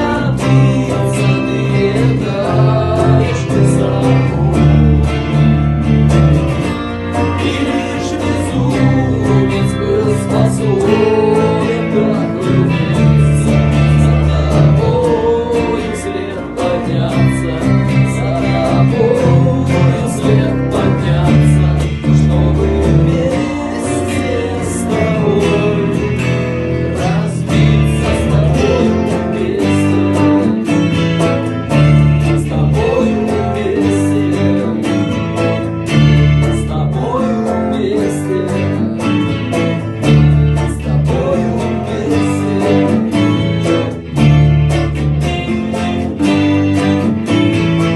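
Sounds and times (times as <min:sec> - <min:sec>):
bass guitar line: 0:00.0 - 0:47.9
guitar melodic lead: 0:00.0 - 0:47.9.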